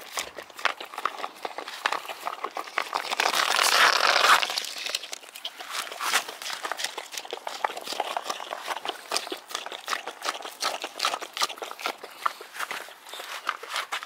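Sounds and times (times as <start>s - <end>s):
puppy licking and eating: 0.0s - 14.0s.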